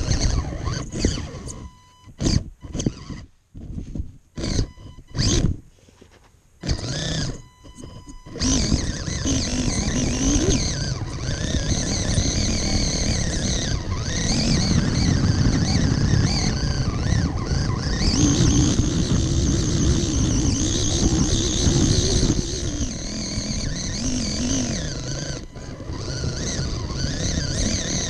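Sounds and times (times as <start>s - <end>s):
toy car electric motor whining: 0.0s - 5.6s, 6.6s - 28.0s.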